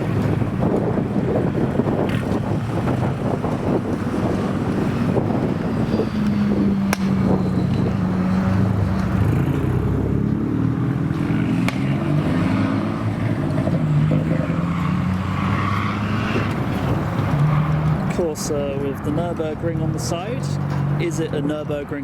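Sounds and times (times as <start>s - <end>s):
car engines running: 0.0s - 22.0s.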